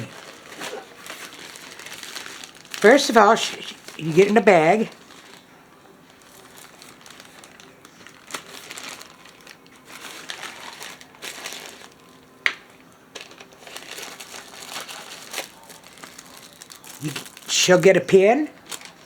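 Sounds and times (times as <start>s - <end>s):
packaging bag crinkling: 0.0s - 19.0s.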